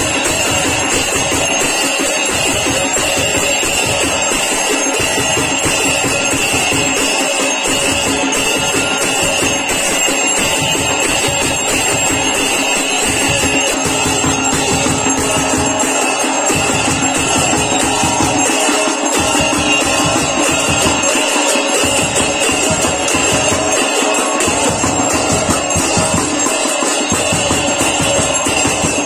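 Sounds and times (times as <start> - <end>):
brass hand cymbals clashing: 0.0 - 29.0
continuous ringing tone: 0.0 - 29.0.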